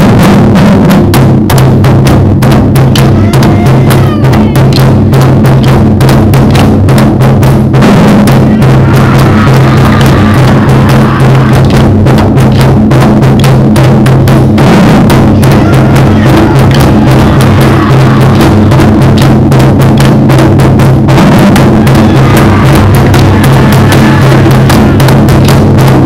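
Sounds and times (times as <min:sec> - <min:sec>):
loud fast drumming: 0:00.0 - 0:26.0.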